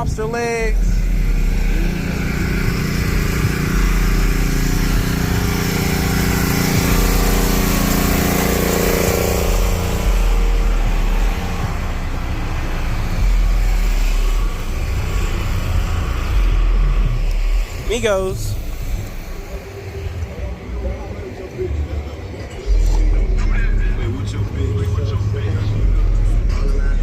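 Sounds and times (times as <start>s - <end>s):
deep bass notes booming: 0.0s - 19.5s, 22.6s - 27.0s
engine-like drone: 0.0s - 27.0s.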